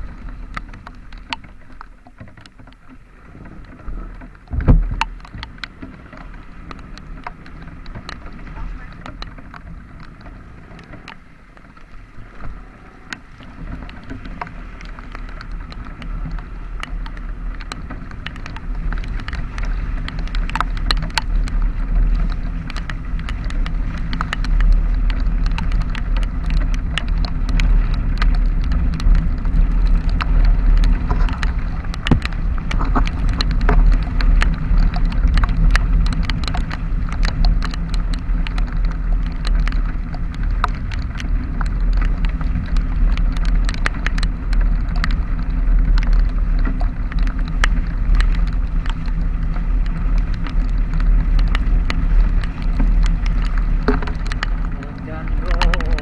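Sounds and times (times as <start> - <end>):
raindrops ticking on microphone: 0.0 - 56.0
wind and road noise: 0.0 - 56.0.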